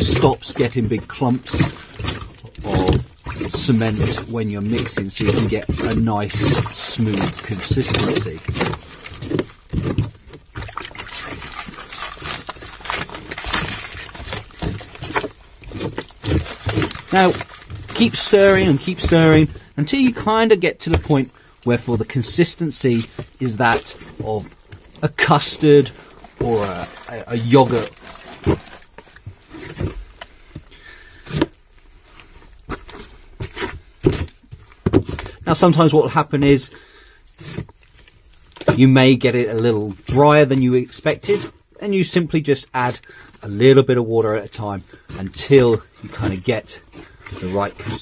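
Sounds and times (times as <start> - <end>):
stick scraping cement in bucket: 0.0 - 36.8, 37.4 - 48.0.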